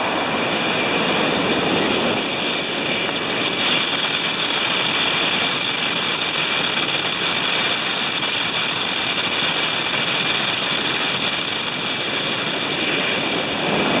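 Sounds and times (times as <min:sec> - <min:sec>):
road noise: 0:00.0 - 0:14.0
truck engine roar: 0:00.0 - 0:14.0.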